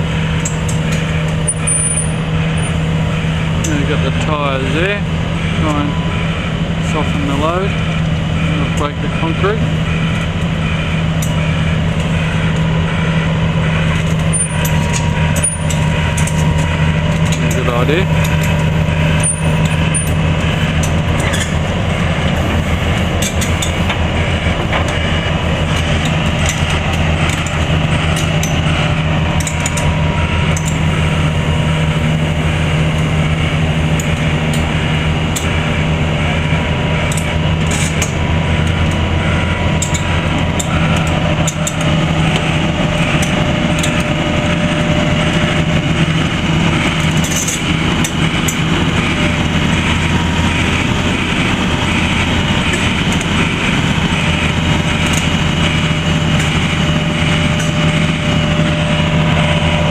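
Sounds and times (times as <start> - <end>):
heavy diesel engine running: 0.0 - 59.9
thin steady whine: 0.0 - 59.9.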